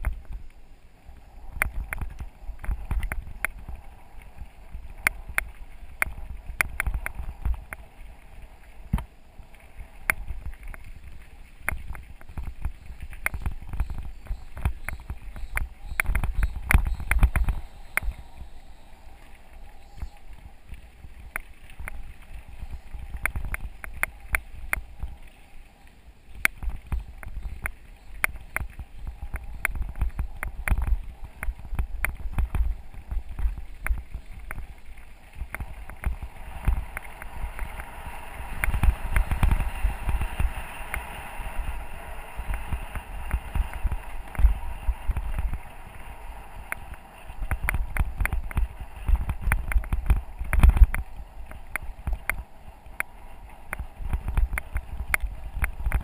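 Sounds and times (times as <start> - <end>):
wind rumble on microphone: 0.0 - 56.0
bike rattling over bumps: 1.5 - 18.6, 26.4 - 56.0.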